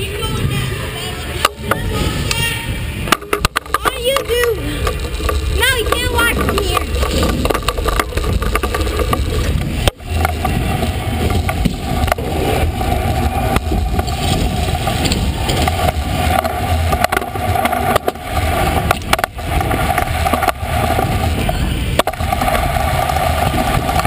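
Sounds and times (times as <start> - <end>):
scooter wheels rolling rumble: 0.0 - 24.0
knocks and clatter from bumps: 3.1 - 24.0.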